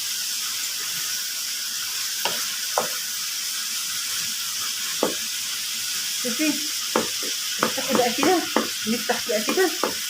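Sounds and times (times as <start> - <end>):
liver sizzling in hot oil: 0.0 - 10.0.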